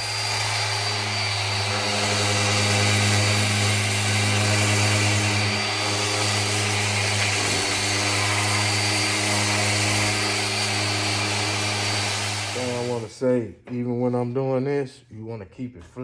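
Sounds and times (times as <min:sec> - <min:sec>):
power sander on metal: 0:00.0 - 0:13.1.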